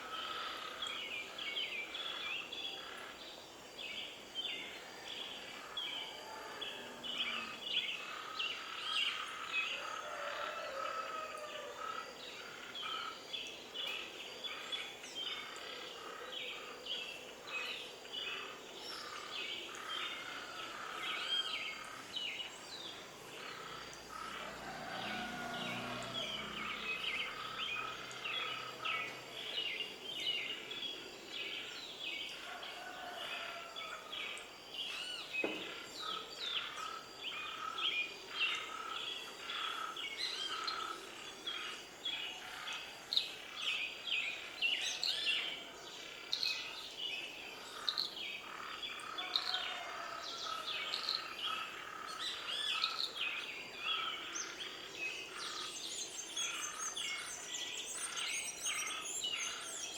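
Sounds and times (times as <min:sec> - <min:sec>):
birds chirping and warbling: 0:00.0 - 0:59.9.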